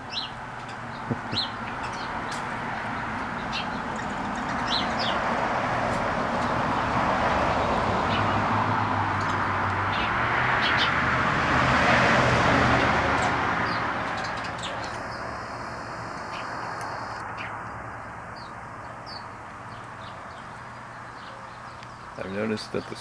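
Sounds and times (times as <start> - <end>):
vehicle passing by: 0.0 - 21.2.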